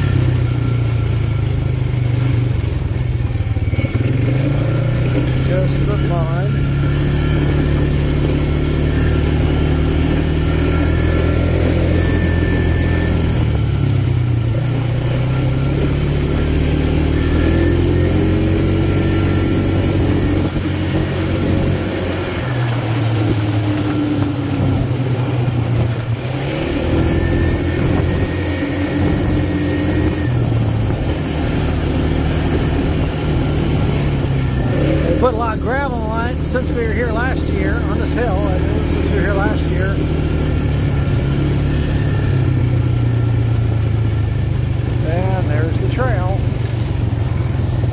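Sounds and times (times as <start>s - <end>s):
quad bike engine revving: 0.0s - 47.9s
tyres on gravel: 3.0s - 47.9s.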